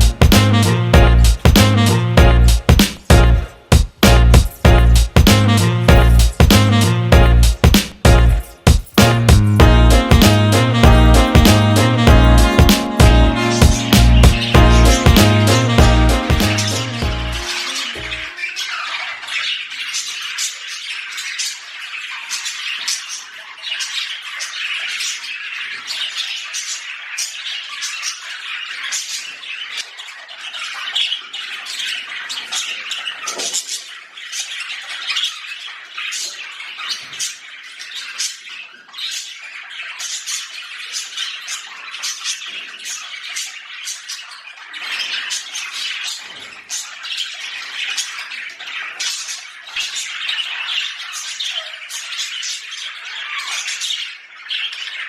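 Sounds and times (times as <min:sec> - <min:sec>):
budgerigars chattering and squawking: 0:00.0 - 0:55.0.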